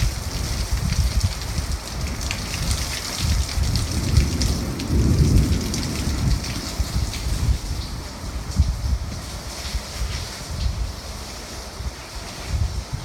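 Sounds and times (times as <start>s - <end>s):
low thunder rumble: 0.0s - 11.0s
heavy rain falling: 0.0s - 13.0s.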